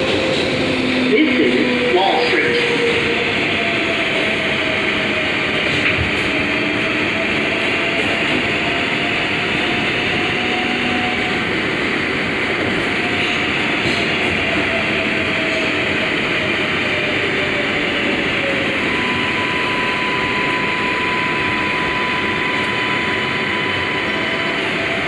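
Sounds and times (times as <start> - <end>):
subway car rumble and rail noise: 0.0 - 25.0.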